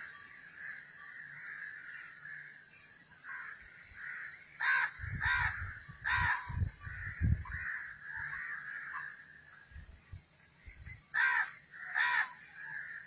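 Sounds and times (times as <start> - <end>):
crow cawing: 0.0 - 2.6, 3.2 - 9.4, 11.1 - 13.0.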